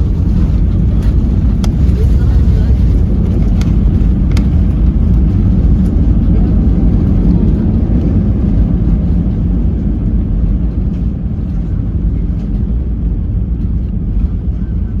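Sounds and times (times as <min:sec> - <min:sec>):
low rumble of jet engines: 0:00.0 - 0:15.0.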